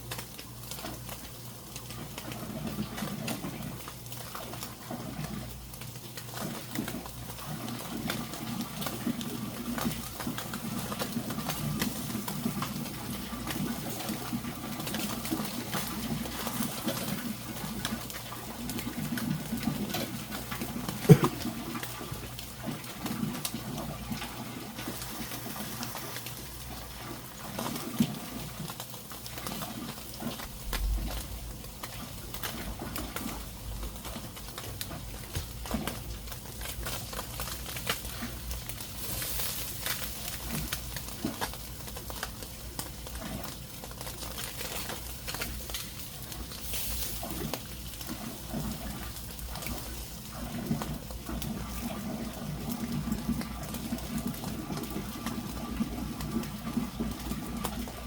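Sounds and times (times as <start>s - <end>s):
fish crackling and sizzling: 0.0s - 58.0s.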